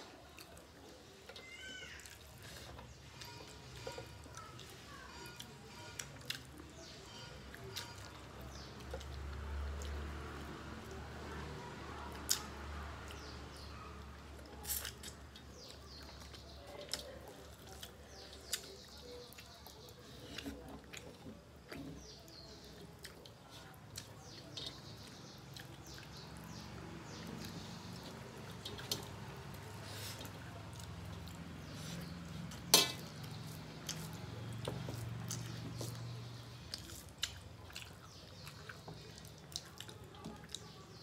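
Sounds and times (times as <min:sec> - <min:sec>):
small birds chirping: 0:00.0 - 0:41.0
squelching and chewing: 0:00.0 - 0:41.0.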